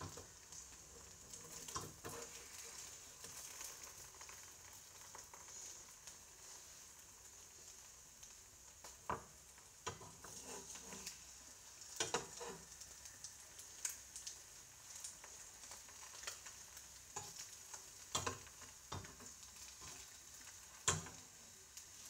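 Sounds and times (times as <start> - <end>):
egg sizzling in a pan: 0.0 - 22.0.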